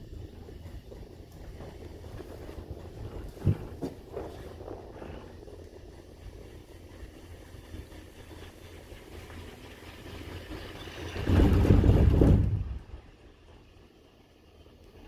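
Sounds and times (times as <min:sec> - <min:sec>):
cable car rumbling clatter: 0:00.0 - 0:15.0.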